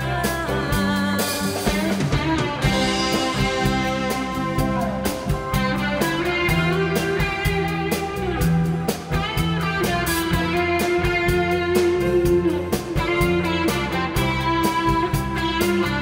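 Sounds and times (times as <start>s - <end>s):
bass: 0.0s - 16.0s
drum kit beat: 0.0s - 16.0s
electric guitar: 0.0s - 16.0s.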